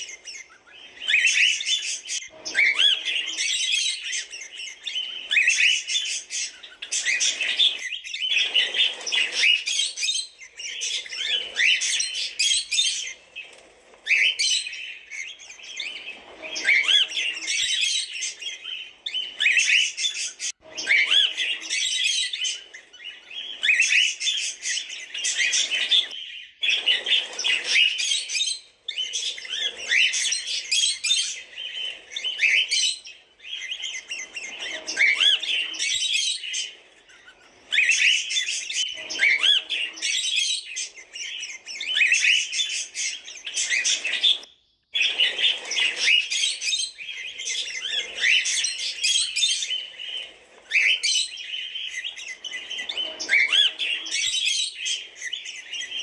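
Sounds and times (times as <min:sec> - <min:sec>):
cockatiels chirping: 0:00.0 - 0:56.0.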